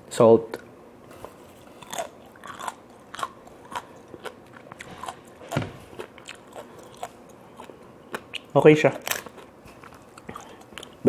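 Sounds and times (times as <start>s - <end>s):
chewing with wet clicks: 1.9s - 11.0s.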